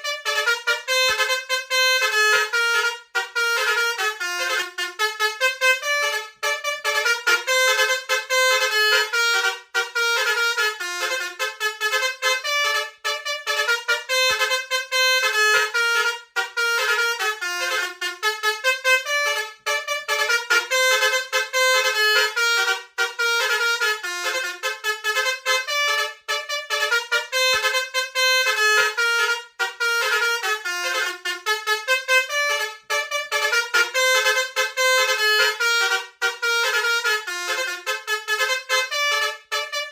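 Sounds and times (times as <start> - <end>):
bus air horn playing tune: 0.0 - 39.9.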